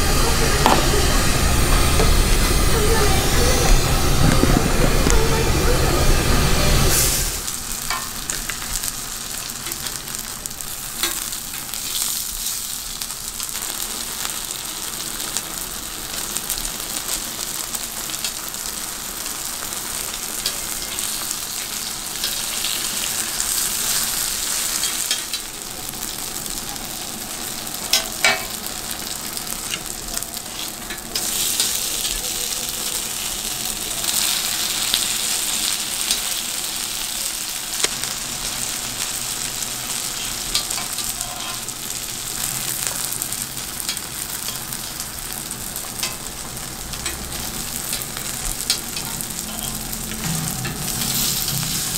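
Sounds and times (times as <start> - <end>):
dumplings sizzling in oil: 0.0 - 51.9.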